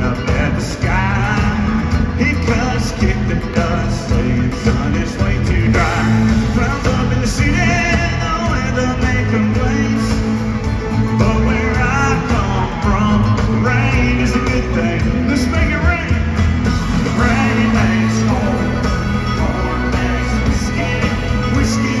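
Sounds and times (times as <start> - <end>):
country-rock band playing live: 0.0 - 22.0
electric guitars: 0.0 - 22.0.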